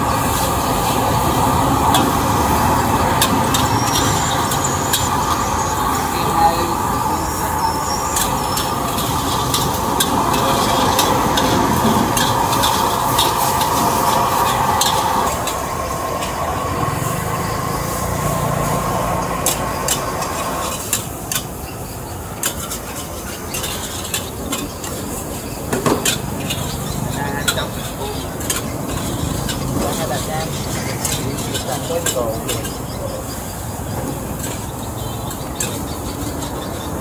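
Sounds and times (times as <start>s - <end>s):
food sizzling: 0.0s - 37.0s
metal ladle scraping wok: 0.1s - 37.0s.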